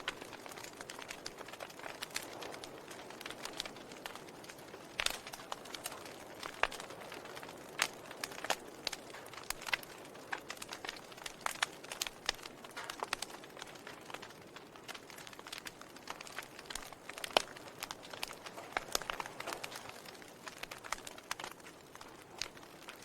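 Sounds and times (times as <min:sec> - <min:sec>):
low steady fire hiss: 0:00.0 - 0:23.0
wood fire crackling and popping: 0:00.0 - 0:23.0.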